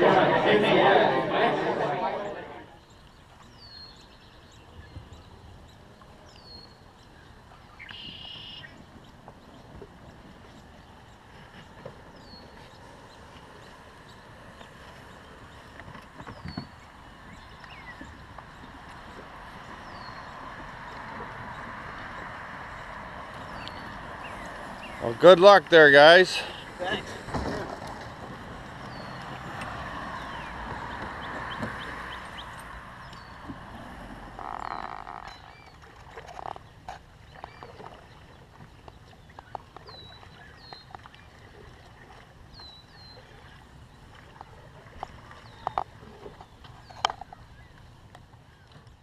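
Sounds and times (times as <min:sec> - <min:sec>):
birds chirping: 0:00.0 - 0:41.4.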